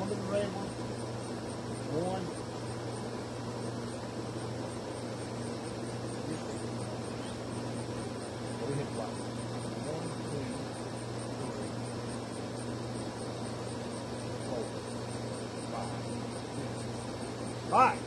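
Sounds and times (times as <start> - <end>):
insects chirping: 0.0 - 18.0
steady low hum: 0.0 - 18.0.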